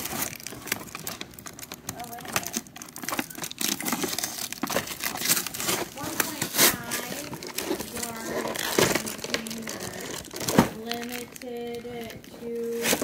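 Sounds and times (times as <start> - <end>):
cardboard packaging crinkling: 0.0 - 13.0.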